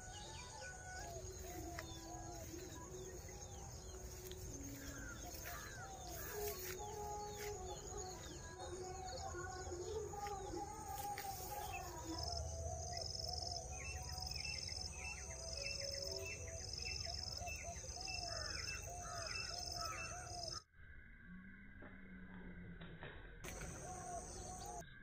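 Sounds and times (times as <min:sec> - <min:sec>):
francolins calling: 0:00.0 - 0:20.6.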